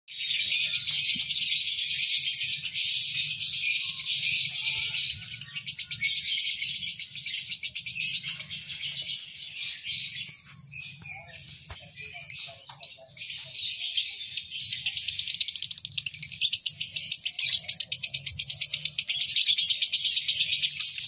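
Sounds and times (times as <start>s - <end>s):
lovebirds twittering: 0.1s - 21.0s.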